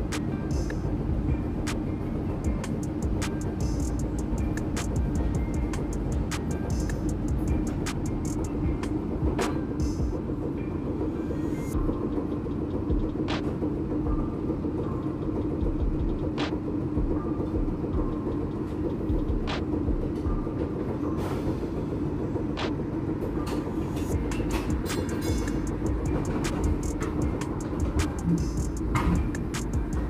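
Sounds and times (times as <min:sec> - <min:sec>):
streetcar equipment humming: 0:00.0 - 0:30.0.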